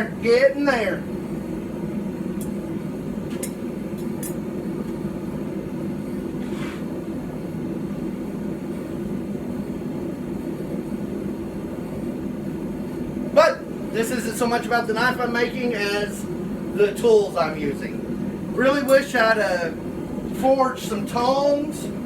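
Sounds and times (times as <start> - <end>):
forge humming: 0.0 - 22.0.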